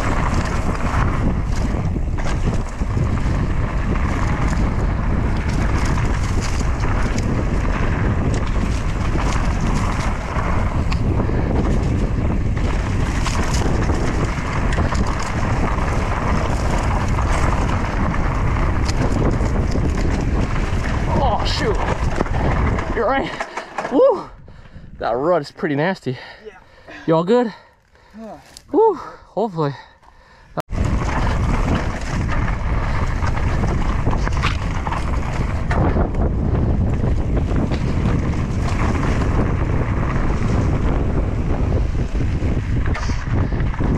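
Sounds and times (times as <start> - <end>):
bike clicks and rattles: 0.0 - 26.4, 27.5 - 28.8, 30.0 - 43.9
tyres rumbling on dirt: 0.0 - 43.9
wind buffeting microphone: 0.0 - 43.9.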